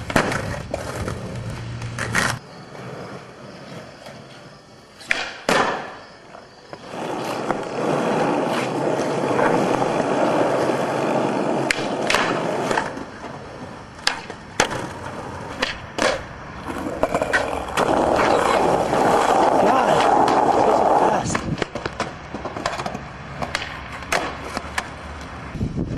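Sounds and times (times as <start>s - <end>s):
skateboard clacking on ground: 0.0s - 25.4s
skateboard wheels rolling on asphalt: 0.0s - 25.9s.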